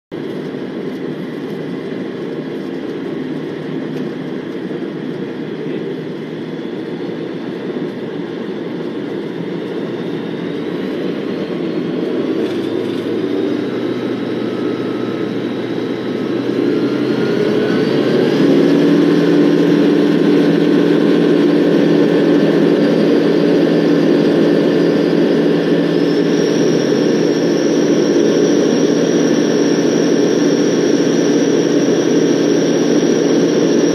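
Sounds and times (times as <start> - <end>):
aircraft engine and propeller: 0.1 - 33.9.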